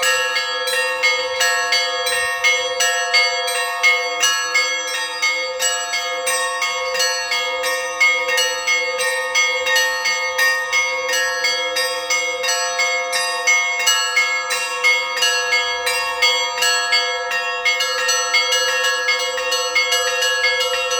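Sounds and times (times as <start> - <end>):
large bells ringing: 0.0 - 20.9.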